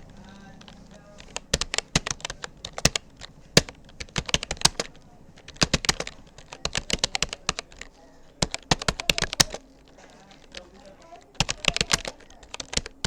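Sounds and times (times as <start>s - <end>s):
computer keyboard keys clicking: 0.0s - 13.0s.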